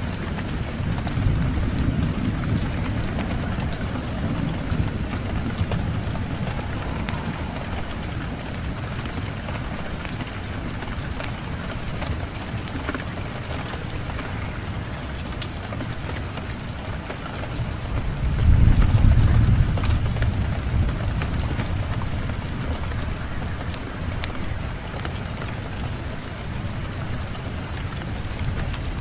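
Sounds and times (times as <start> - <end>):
fireplace fire crackling: 0.0 - 29.0
low wind rumble: 0.0 - 29.0.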